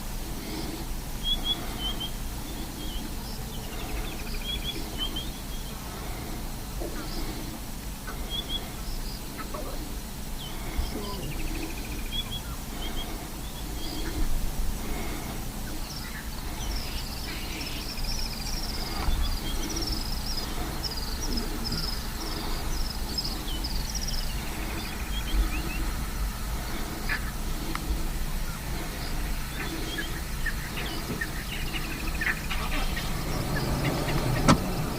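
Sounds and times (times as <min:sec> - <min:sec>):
birds chirping: 0:00.0 - 0:34.9
low background rumble: 0:00.0 - 0:34.9.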